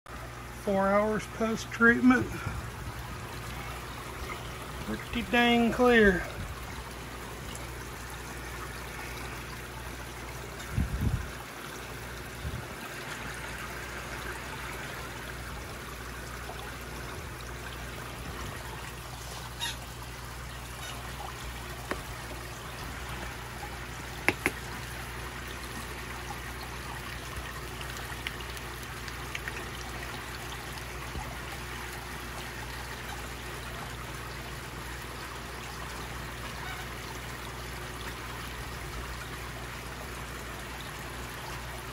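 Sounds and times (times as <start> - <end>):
low steady hum: 0.1 - 41.9
running water trickling: 0.1 - 41.9.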